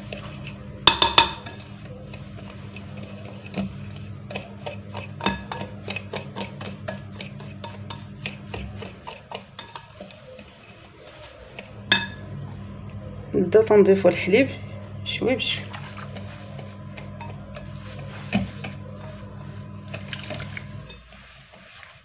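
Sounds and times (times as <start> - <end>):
whisk scraping a glass bowl: 0.0 - 12.2, 15.6 - 22.0
steady low hum: 0.0 - 21.4.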